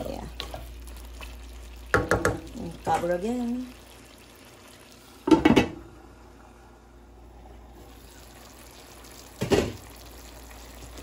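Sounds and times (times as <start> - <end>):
faint simmering: 0.0 - 11.0.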